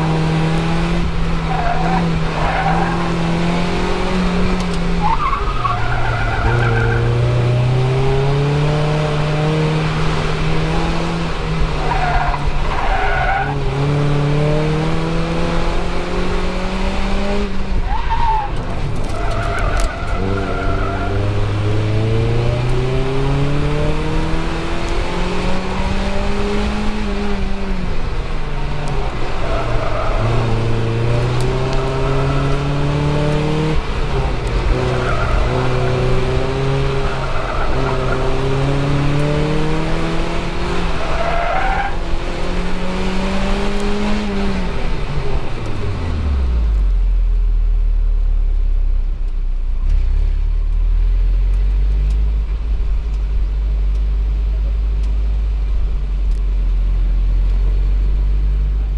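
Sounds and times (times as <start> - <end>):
car engine revving: 0.0 - 49.2.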